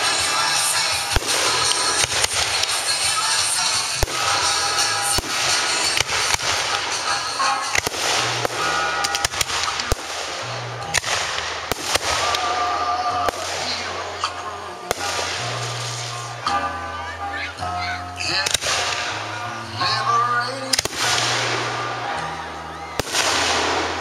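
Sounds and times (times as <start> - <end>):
fireworks bursting: 0.0 - 16.7, 18.2 - 24.0
fireworks crackling: 0.0 - 24.0
music playing: 0.0 - 24.0.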